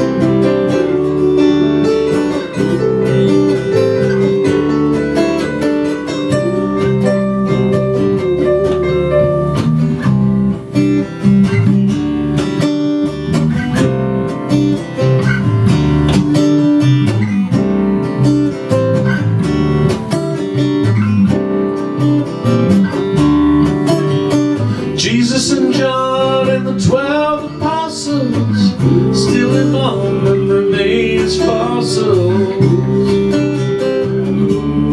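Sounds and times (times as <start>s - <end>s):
moving bass line: 0.0s - 27.1s, 28.6s - 34.9s
acoustic guitar picking and strumming: 0.0s - 34.9s.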